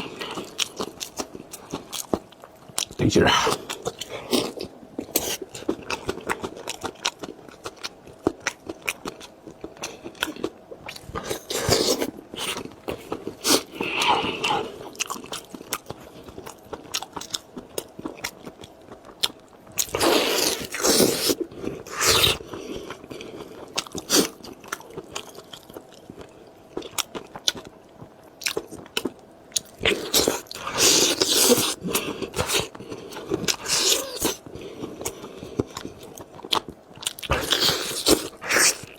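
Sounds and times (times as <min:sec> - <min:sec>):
biting and chewing crunchy food: 0:00.0 - 0:38.9.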